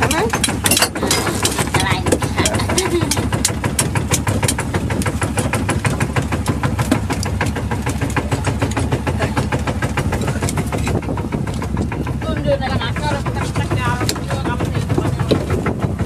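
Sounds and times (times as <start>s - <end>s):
boat engine knocking: 0.0s - 16.0s.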